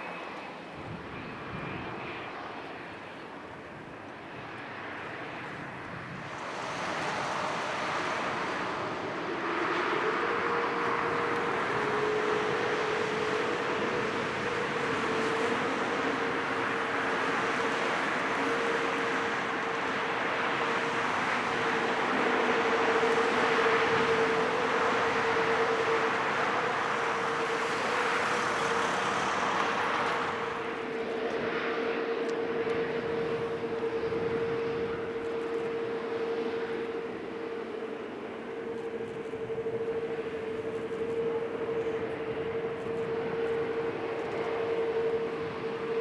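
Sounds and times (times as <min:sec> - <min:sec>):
jet engines running: 0:00.0 - 0:46.0.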